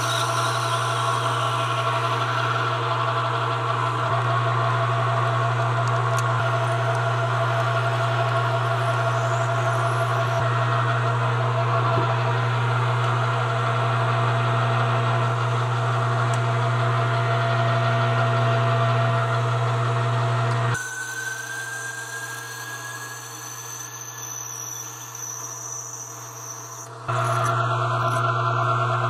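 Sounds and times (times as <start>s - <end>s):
drill bit cutting steel: 0.0s - 29.0s
metal lathe motor hum: 0.0s - 29.0s.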